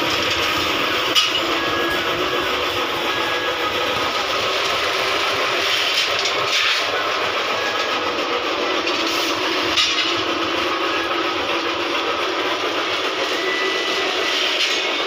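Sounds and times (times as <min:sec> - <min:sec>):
machinery rushing noise: 0:00.0 - 0:15.0.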